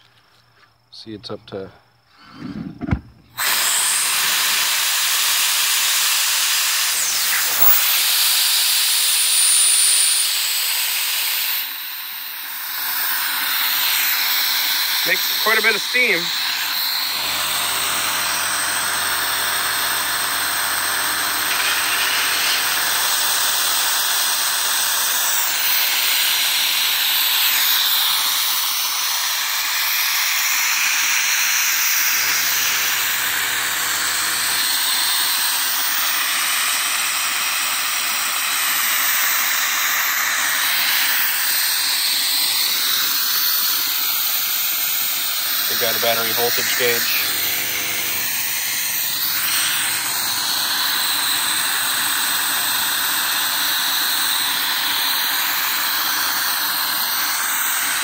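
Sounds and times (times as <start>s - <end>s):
steam hissing: 3.4s - 58.0s.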